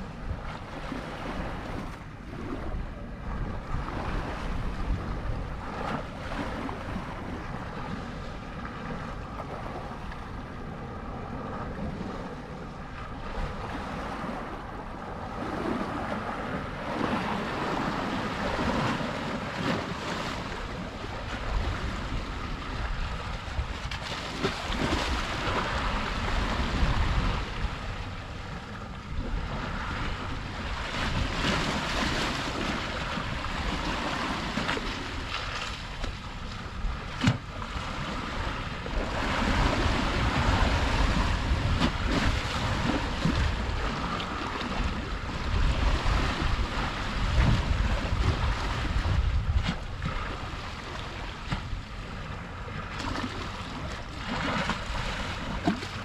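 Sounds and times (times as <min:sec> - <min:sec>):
sea waves washing ashore: 0:00.0 - 0:56.0
wind on microphone: 0:00.0 - 0:56.0.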